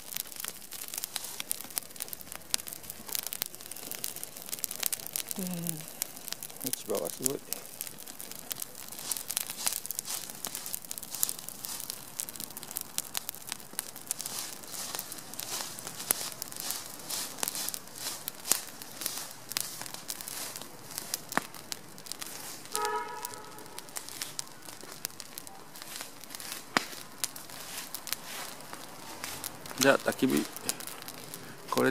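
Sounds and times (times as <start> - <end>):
fire crackling: 0.0 - 31.9.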